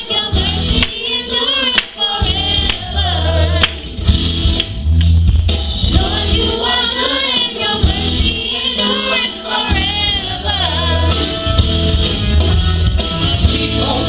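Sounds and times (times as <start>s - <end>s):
voices singing gospel song: 0.0s - 4.6s, 5.8s - 14.0s
band with pulsing bass: 0.0s - 14.0s.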